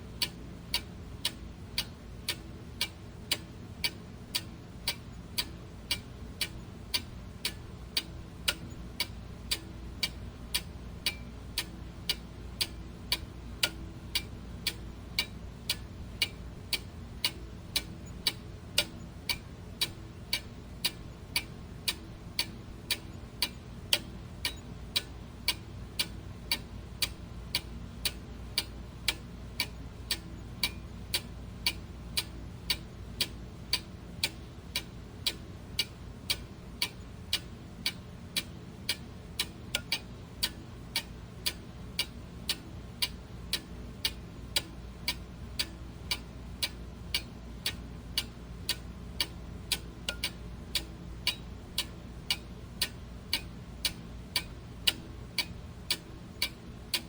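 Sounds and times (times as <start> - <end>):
clock ticking: 0.2 - 57.0.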